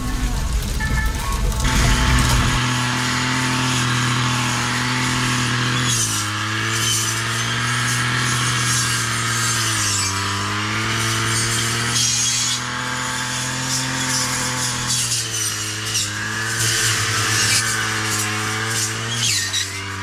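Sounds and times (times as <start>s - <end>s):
chainsaw cutting wood: 1.4s - 20.0s.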